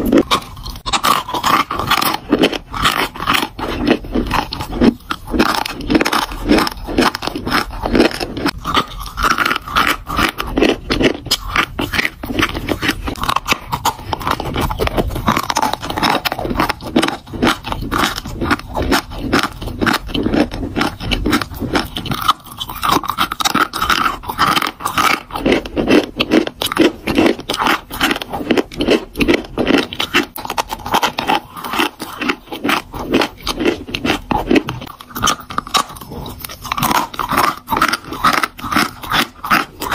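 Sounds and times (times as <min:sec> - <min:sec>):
chewing and crunching chalk: 0:00.0 - 0:39.9.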